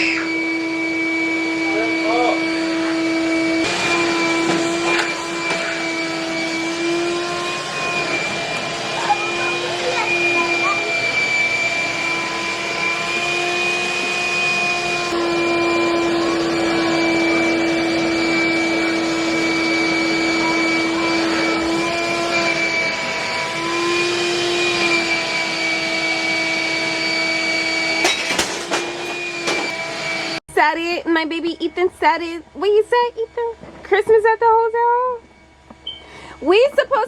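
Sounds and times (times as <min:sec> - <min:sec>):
vacuum cleaner motor whining: 0:00.0 - 0:30.5, 0:31.1 - 0:37.0.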